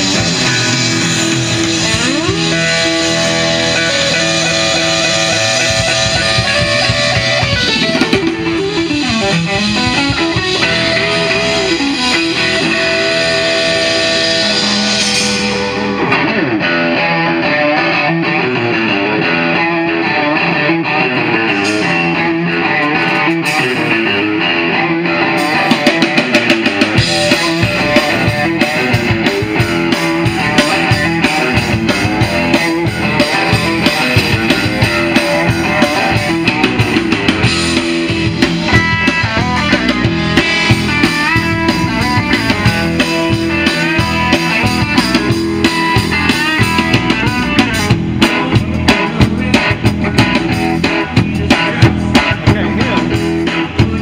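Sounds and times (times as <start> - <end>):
drum kit beat: 0.0 - 17.6, 18.2 - 24.5, 25.1 - 54.0
electric guitar: 0.0 - 54.0
live blues band: 0.0 - 54.0.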